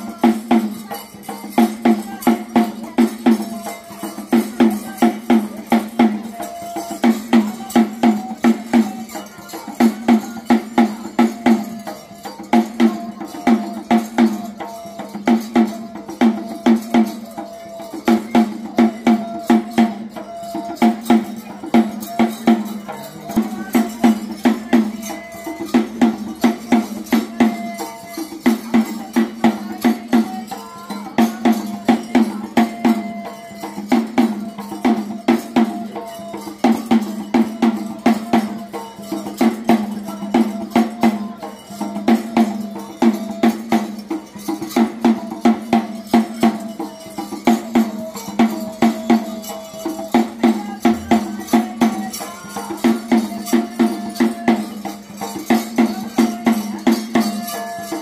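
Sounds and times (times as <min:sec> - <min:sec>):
drums beating: 0:00.0 - 0:58.0
jingling tambourine: 0:00.0 - 0:58.0.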